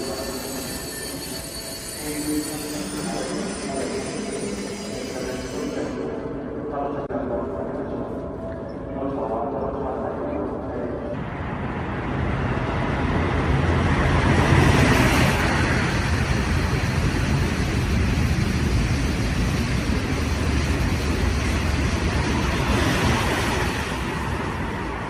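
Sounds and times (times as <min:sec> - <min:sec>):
train rushing along track: 0:00.0 - 0:25.0.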